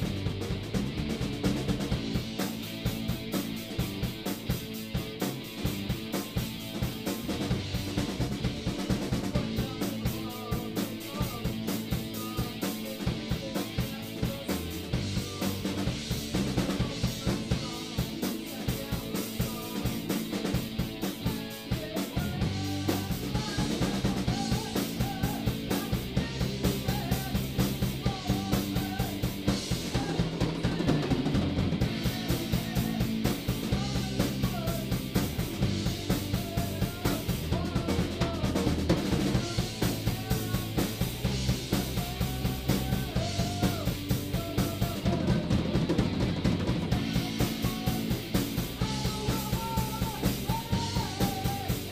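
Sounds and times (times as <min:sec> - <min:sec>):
bass guitar: 0:00.0 - 0:51.9
drum kit beat: 0:00.0 - 0:51.9
electric guitars: 0:00.0 - 0:51.9.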